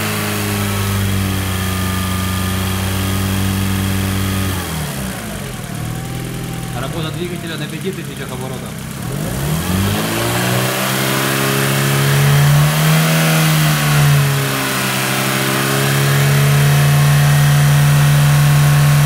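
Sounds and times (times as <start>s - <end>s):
petrol engine revving: 0.0s - 19.0s.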